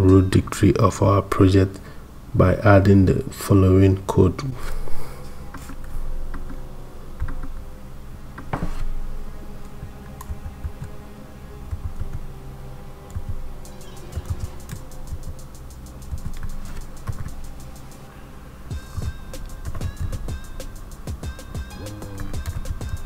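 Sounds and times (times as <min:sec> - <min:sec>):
faint steady background tones: 0:00.0 - 0:23.0.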